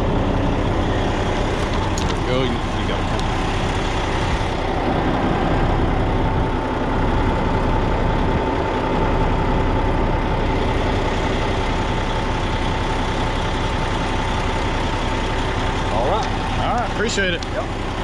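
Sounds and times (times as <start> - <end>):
diesel engine idling: 0.0 - 18.0
steady whine: 0.0 - 18.0.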